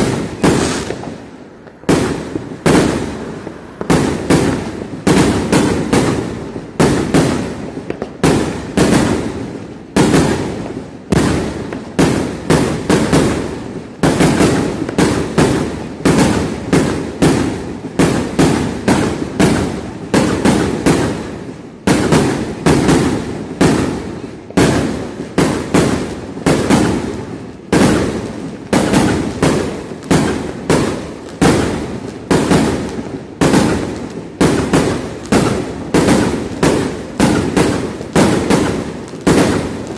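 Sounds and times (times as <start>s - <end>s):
fireworks banging: 0.0s - 39.9s.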